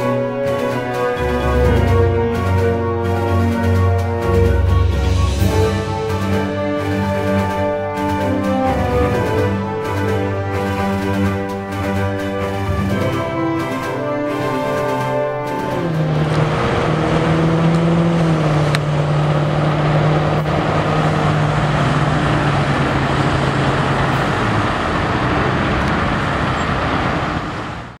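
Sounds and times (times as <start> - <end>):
street traffic noise: 0.0 - 28.0
vehicle engine hum: 0.0 - 28.0.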